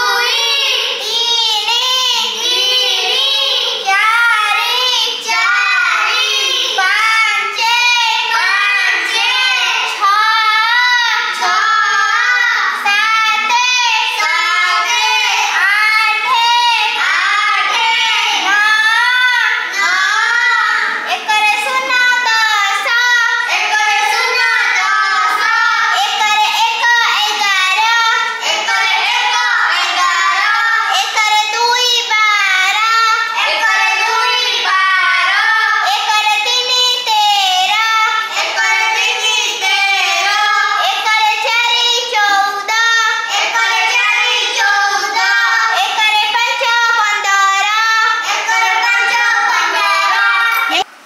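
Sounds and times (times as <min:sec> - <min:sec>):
girl singing: 0:00.0 - 0:51.0.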